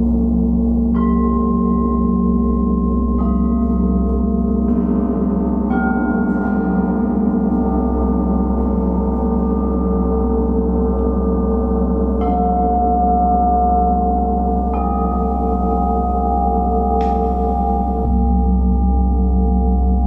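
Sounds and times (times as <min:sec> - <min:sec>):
gong and singing bowls drone: 0:00.0 - 0:20.0.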